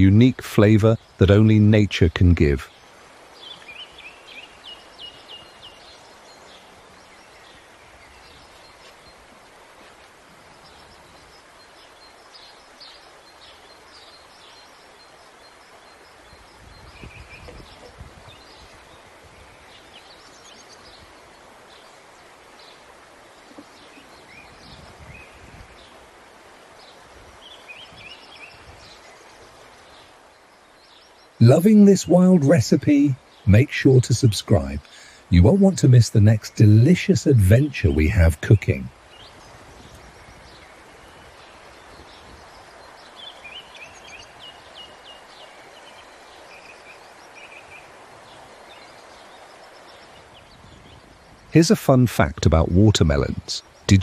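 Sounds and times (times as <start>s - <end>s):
small birds chirping: 0.0s - 54.0s
steady outdoor hiss: 0.0s - 54.0s.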